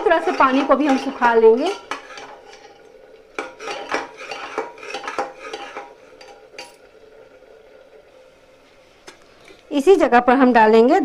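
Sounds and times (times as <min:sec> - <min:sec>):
spoon scraping metal pot: 0:00.0 - 0:09.7.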